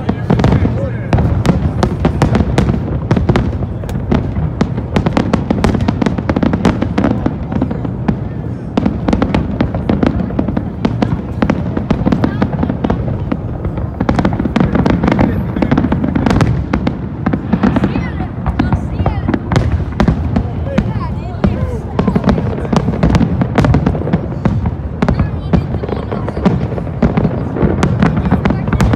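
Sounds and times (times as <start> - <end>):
fireworks popping and crackling: 0.0 - 28.9.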